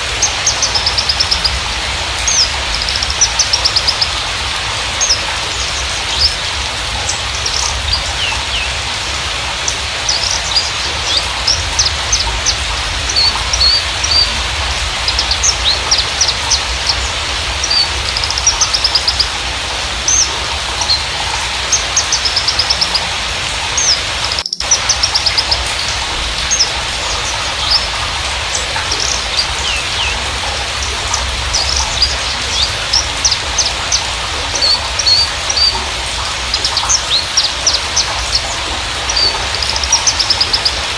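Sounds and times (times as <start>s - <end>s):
bird singing chirps and trills: 0.0s - 40.9s
steady hiss: 0.0s - 40.9s.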